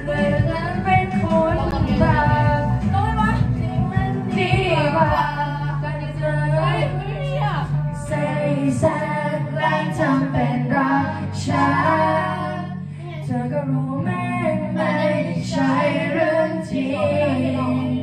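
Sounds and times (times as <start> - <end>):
karaoke backing track: 0.0 - 18.0
person singing into microphone: 0.0 - 18.0.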